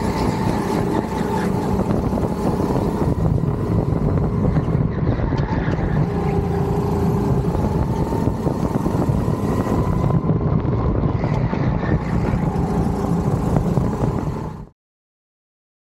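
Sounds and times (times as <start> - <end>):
go-kart motor running hard: 0.0 - 14.7.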